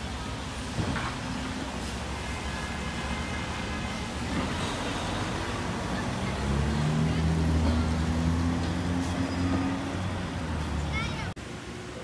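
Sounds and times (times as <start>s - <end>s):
cars on the road: 0.0s - 12.0s.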